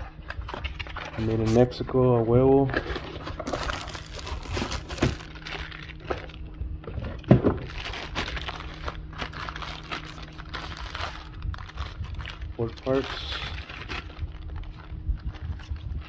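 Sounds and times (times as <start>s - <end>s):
plastic packaging crinkling: 0.0s - 1.8s, 2.4s - 16.0s.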